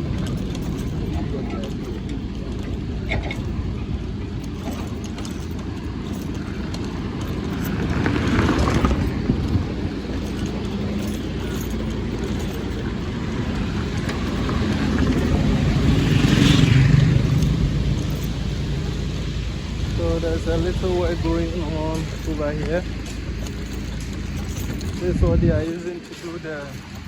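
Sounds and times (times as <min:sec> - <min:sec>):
motor vehicles passing: 0:00.0 - 0:27.0
road rumble: 0:00.0 - 0:27.0.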